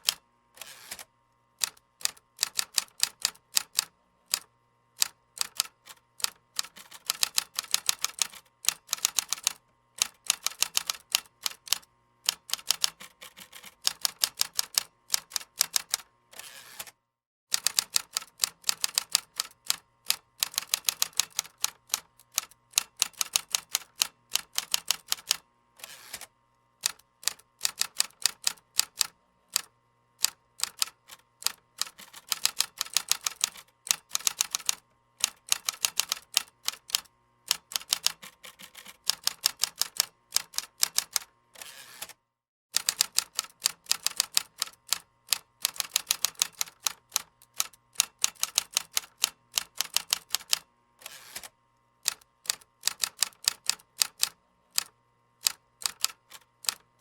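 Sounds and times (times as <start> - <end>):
computer keyboard typing: 1.6 - 16.0, 17.5 - 25.4, 26.8 - 41.3, 42.8 - 50.6, 51.4 - 56.9.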